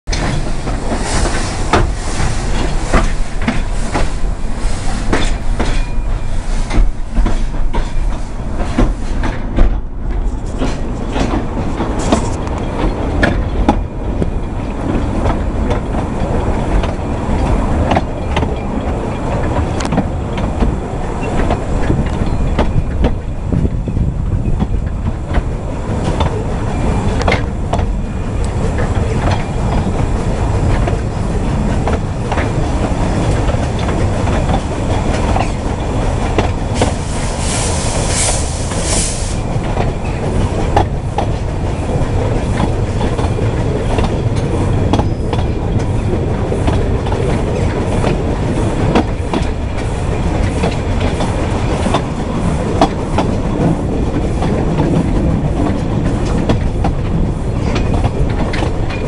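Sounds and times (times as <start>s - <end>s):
train rumbling on track: 0.0s - 59.0s
wheels clicking over rail joints: 0.1s - 37.1s, 38.7s - 59.0s.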